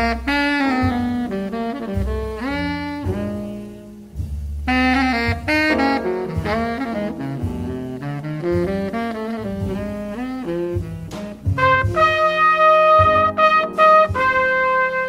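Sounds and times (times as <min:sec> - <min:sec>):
double bass: 0:00.0 - 0:15.0
saxophone jazz ballad solo: 0:00.0 - 0:15.0.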